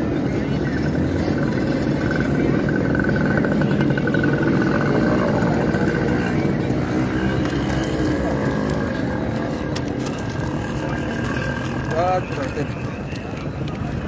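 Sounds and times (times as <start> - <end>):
rumble of crowd walking: 0.0 - 14.0.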